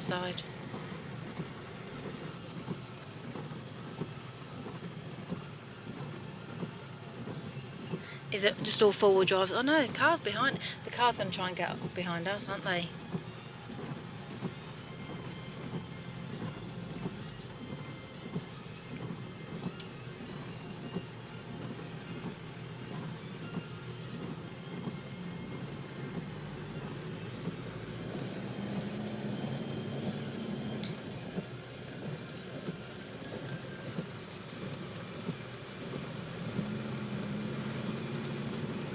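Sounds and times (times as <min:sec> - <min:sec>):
car engine hum: 0:00.0 - 0:38.9
rain hiss on road: 0:00.0 - 0:38.9.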